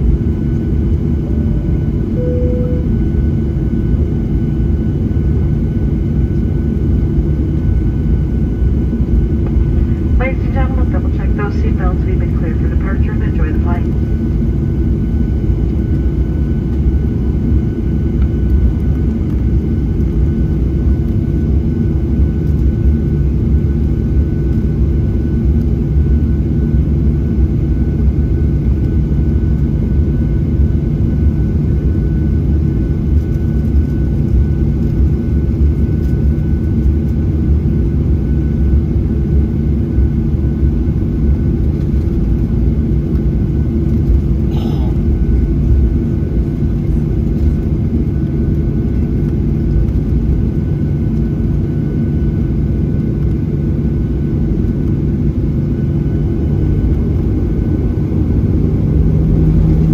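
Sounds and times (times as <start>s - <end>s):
faint engine whine: 0.0s - 59.9s
jet engines rumbling in cabin: 0.0s - 59.9s.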